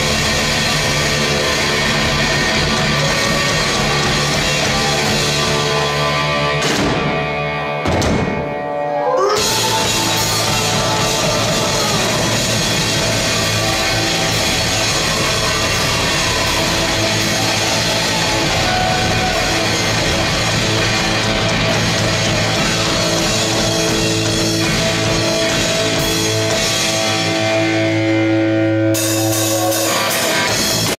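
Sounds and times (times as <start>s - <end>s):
hard rock band playing: 0.0s - 30.9s.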